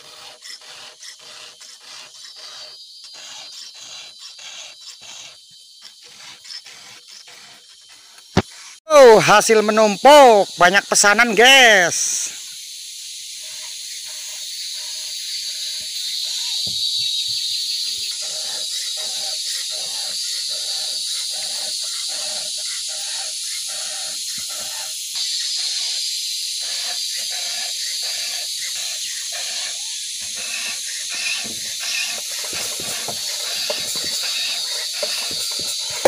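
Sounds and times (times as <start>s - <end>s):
file rasping on chainsaw chain: 0.0s - 8.8s, 13.4s - 36.0s
insects droning: 0.0s - 36.0s.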